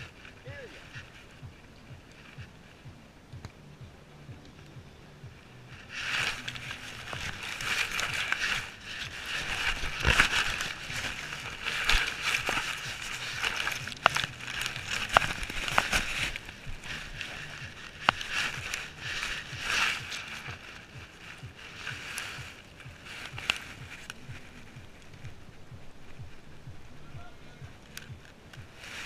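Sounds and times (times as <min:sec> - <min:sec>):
grass scraping and rustling: 0:00.0 - 0:29.0.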